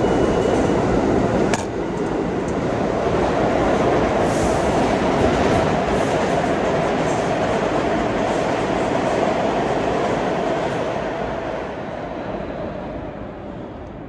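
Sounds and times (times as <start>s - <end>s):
subway train rumbling on track: 0.0s - 14.0s.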